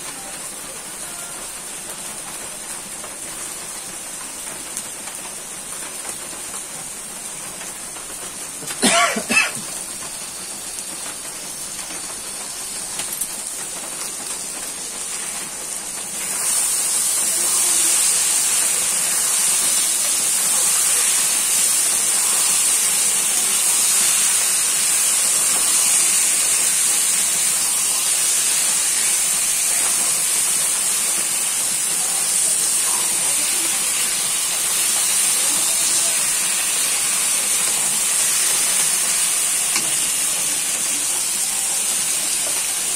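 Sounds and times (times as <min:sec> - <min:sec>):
chicken sizzling in hot oil: 0:00.0 - 0:42.9.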